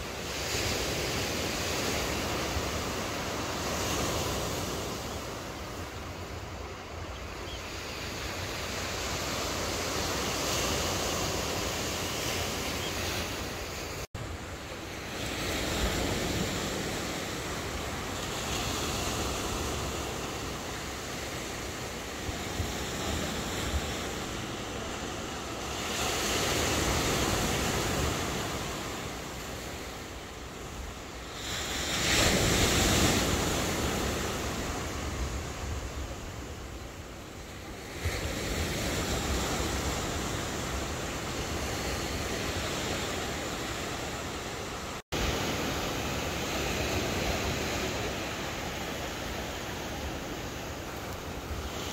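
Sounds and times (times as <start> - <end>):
waves breaking on rocky shore: 8.2 - 51.9.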